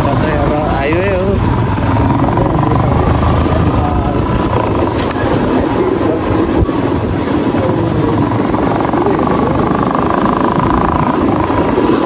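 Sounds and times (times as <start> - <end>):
motorcycle running: 0.0 - 12.0
wind rumble on microphone: 0.0 - 12.0
faint voice: 2.2 - 12.0.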